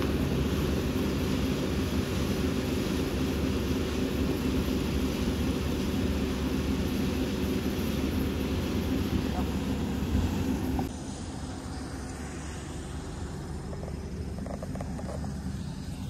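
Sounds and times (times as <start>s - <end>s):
combine harvester engine drone: 0.0s - 16.0s.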